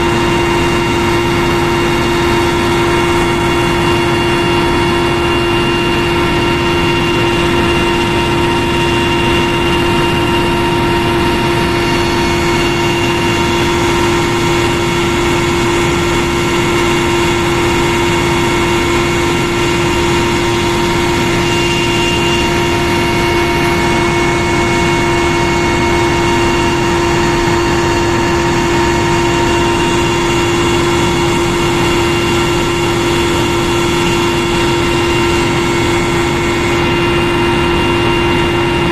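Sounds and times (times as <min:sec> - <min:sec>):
helicopter engine and rotor noise: 0:00.0 - 0:38.9.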